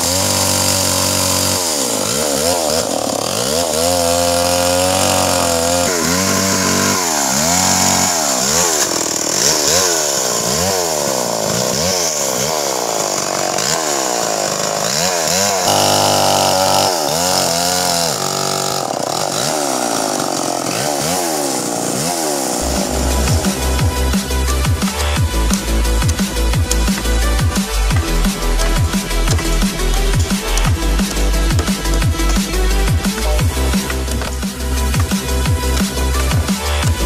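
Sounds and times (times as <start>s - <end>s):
chainsaw revving: 0.0s - 37.0s.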